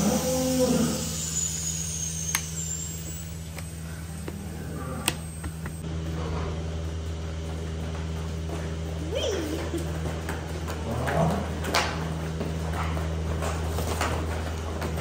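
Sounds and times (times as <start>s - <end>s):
milking machinery hum: 0.0s - 15.0s.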